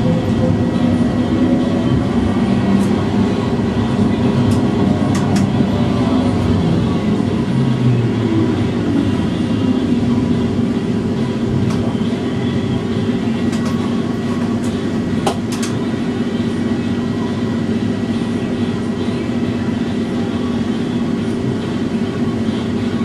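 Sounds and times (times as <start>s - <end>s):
tram motors humming: 0.0s - 23.0s.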